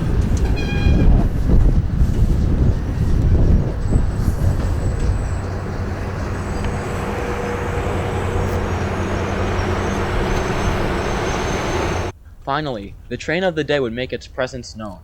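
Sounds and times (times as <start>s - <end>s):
commuter train running by: 0.0s - 12.1s.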